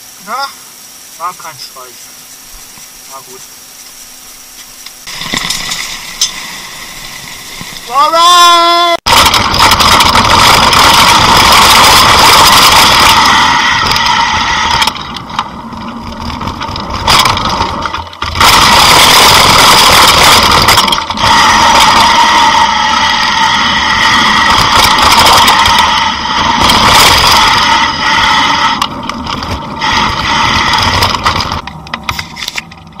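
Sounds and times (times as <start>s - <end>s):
high steady buzz: 0.0s - 32.6s
mountain bike rattling on gravel: 5.0s - 8.0s, 9.1s - 33.0s.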